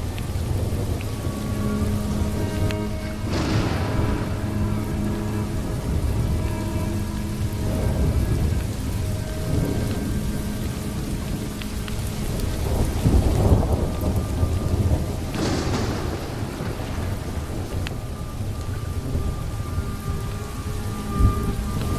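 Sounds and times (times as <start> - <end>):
heavy rain: 0.0 - 21.9
rolling thunder: 0.0 - 21.9
soft sustained music notes: 0.0 - 21.9.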